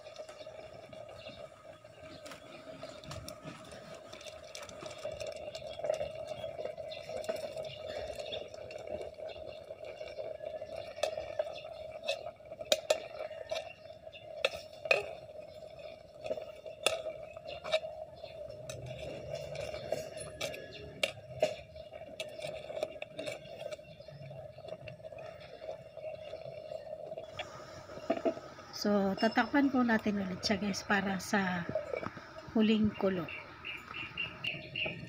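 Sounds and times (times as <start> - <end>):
metal ladle stirring in pot: 0.0 - 33.1.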